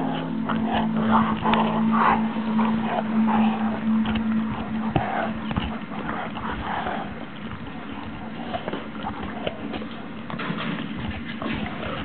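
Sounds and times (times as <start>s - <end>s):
dog gnawing chew stick: 0.0s - 12.0s
teeth clicks and crunches: 0.0s - 12.0s.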